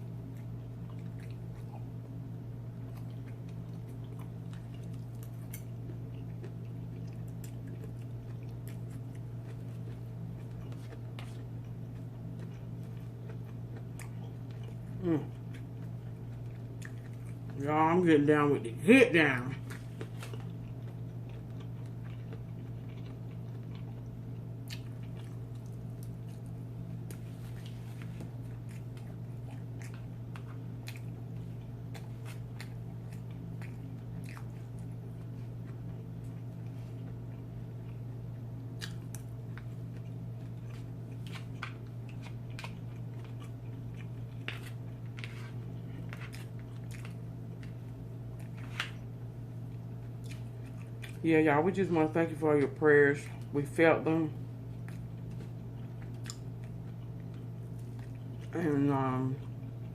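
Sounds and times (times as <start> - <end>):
steady low hum: 0.0 - 59.9
wet chewing and smacking: 0.1 - 17.6, 19.5 - 51.3, 54.6 - 58.6.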